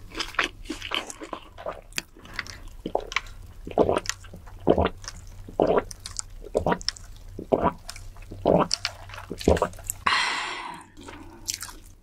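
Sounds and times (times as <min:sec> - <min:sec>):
person swallowing through a straw: 0:00.8 - 0:12.0.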